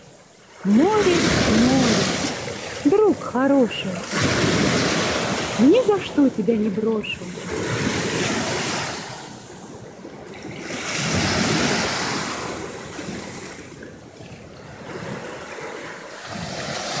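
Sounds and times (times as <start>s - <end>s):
small waves breaking on shore: 0.0s - 17.0s.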